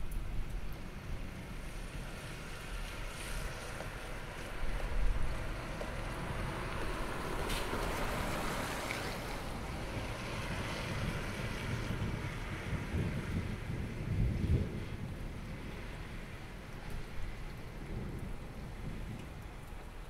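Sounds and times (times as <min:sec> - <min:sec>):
rain hissing: 0:00.0 - 0:20.0
wind: 0:00.0 - 0:20.0.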